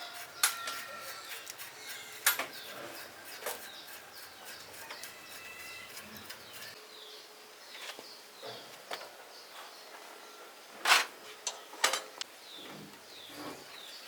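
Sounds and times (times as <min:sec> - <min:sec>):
small birds chirping: 0:00.0 - 0:10.5, 0:11.5 - 0:14.0.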